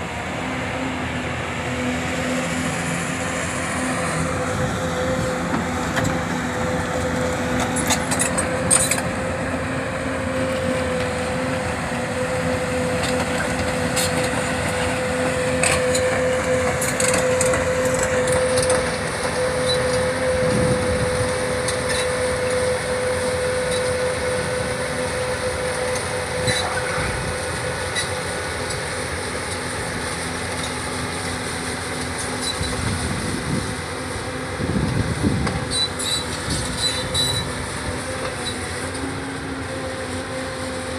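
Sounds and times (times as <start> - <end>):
excavator engine whine: 0.0 - 40.9.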